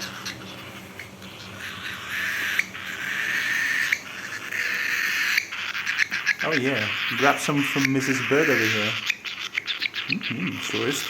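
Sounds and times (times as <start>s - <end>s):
beak clicking on food: 0.0s - 11.0s.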